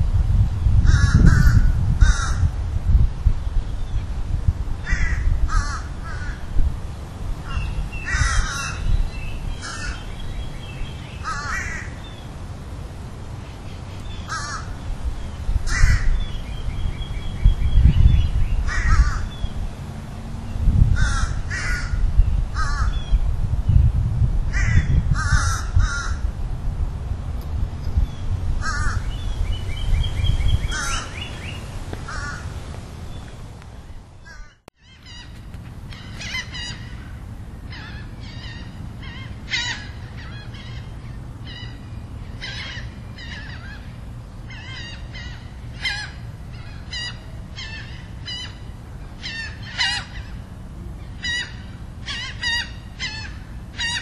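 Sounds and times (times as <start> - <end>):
birds calling: 0.8 - 2.5, 4.8 - 6.5, 7.4 - 12.4, 13.3 - 23.9, 24.5 - 26.3, 27.8 - 54.0.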